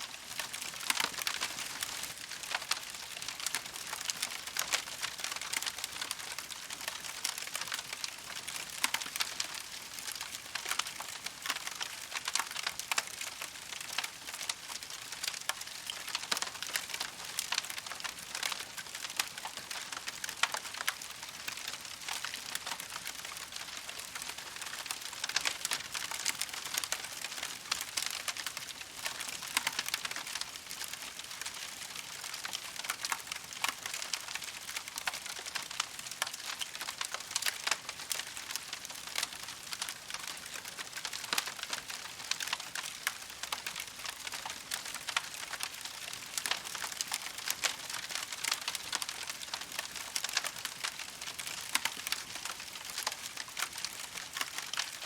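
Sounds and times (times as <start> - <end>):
campfire crackling: 0.1 - 55.0.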